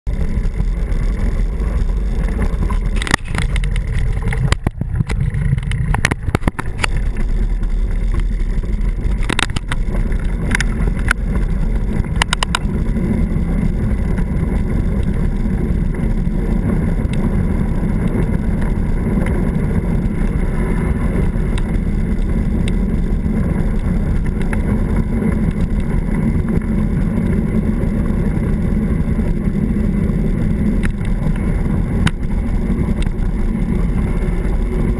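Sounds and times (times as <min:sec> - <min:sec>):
tyres rolling on gravel: 0:00.1 - 0:34.9
wind rumble on microphone: 0:00.1 - 0:34.9.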